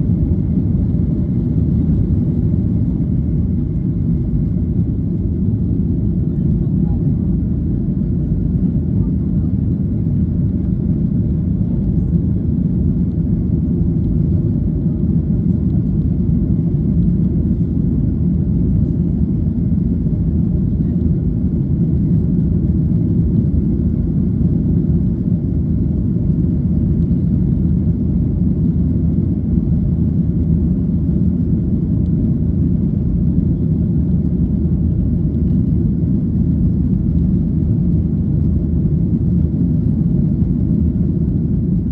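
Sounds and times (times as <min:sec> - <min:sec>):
airliner engine and airflow rumble: 0:00.0 - 0:41.9.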